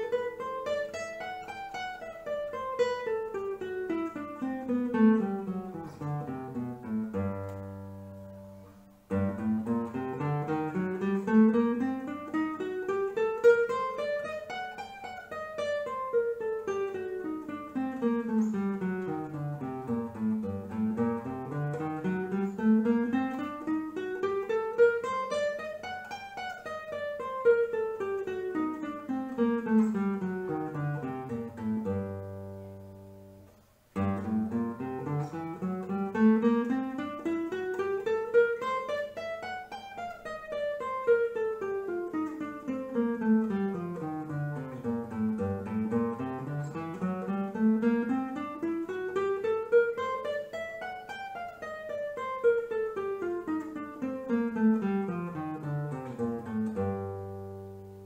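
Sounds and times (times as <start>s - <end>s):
classical guitar playing scales: 0.0s - 58.0s.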